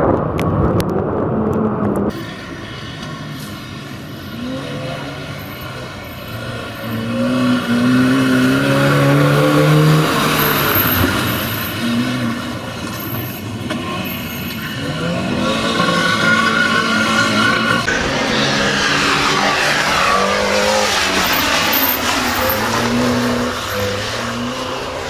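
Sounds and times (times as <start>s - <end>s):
rally car engine revving: 4.2s - 25.0s.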